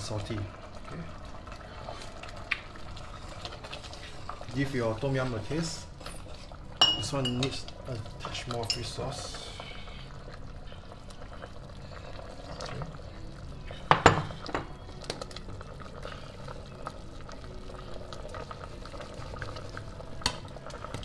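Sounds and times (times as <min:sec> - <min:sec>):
ladle stirring soup: 0:00.8 - 0:21.0.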